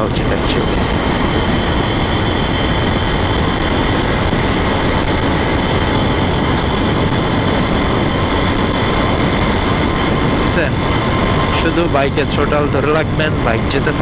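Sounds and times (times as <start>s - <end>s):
motorcycle engine cruising: 0.0s - 14.0s
wind rushing on microphone: 0.0s - 14.0s.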